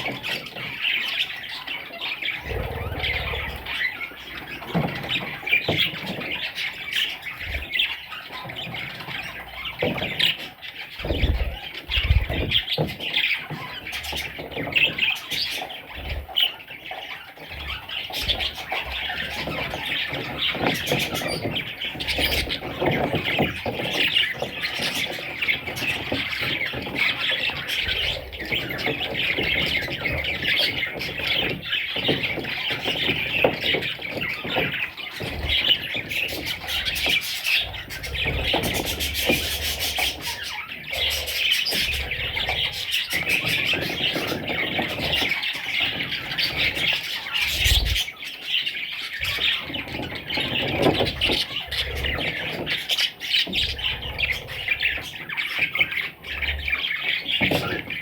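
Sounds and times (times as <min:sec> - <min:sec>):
parrots chattering and squawking: 0:00.0 - 0:58.0.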